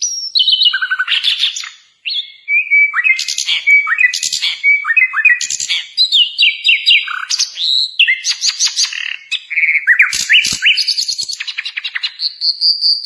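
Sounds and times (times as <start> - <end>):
bird singing rapid varied song: 0.0 - 13.0.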